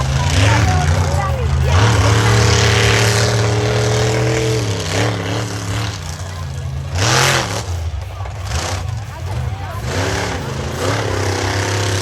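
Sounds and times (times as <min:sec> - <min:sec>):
loud noisy background: 0:00.0 - 0:12.0
monster truck engine revving: 0:00.0 - 0:12.0.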